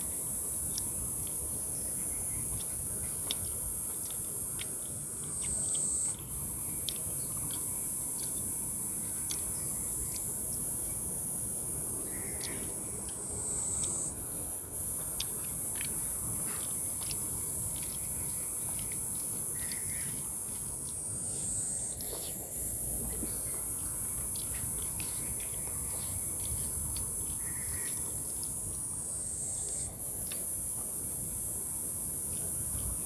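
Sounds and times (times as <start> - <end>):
cicadas buzzing: 0.0 - 33.0
person eating by hand: 0.6 - 29.1, 30.0 - 30.9.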